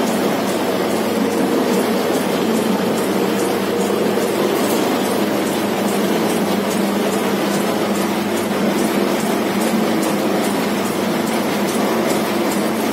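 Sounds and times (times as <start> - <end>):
dough mixer motor hum: 0.0 - 12.9.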